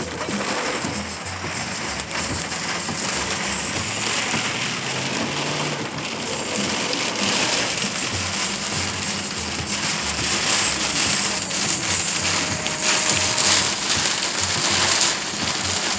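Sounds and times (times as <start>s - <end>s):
heavy rain pouring: 0.0s - 15.9s.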